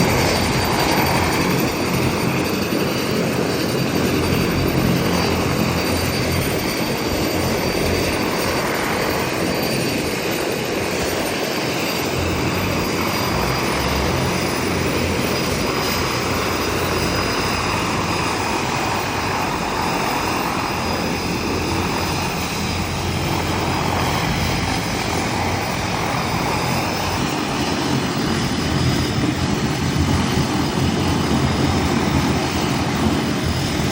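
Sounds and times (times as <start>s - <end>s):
turboprop engines droning: 0.0s - 33.9s.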